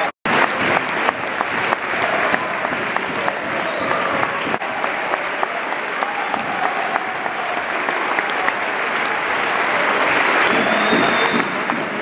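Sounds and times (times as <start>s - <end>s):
players clapping: 0.0s - 12.0s
stadium crowd applauding: 0.0s - 12.0s.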